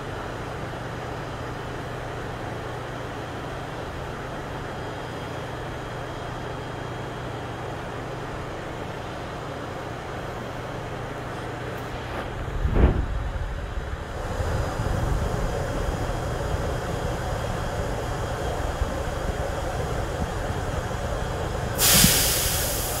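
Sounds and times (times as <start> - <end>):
electric train running rumble: 0.0 - 23.0.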